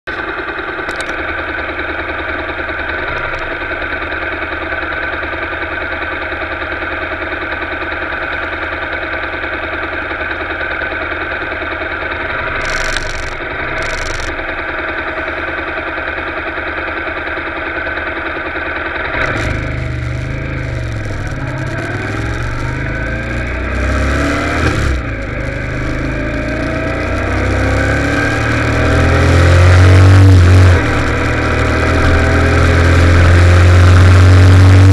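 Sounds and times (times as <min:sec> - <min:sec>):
motorcycle engine: 0:00.1 - 0:34.9.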